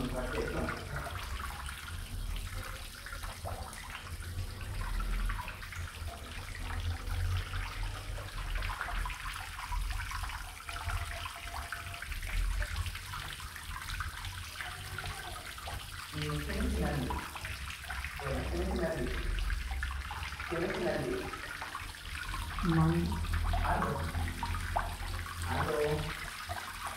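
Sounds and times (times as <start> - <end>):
water sloshing and splashing: 0.0 - 26.9.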